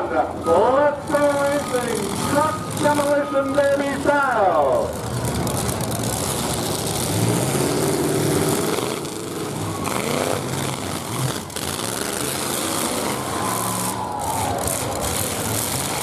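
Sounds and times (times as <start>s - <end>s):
truck engines revving: 0.0s - 16.0s.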